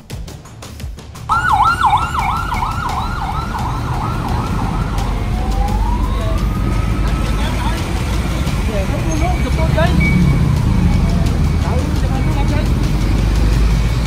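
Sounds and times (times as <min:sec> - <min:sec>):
highway traffic rumble: 0:00.0 - 0:14.0
emergency siren: 0:01.3 - 0:13.8.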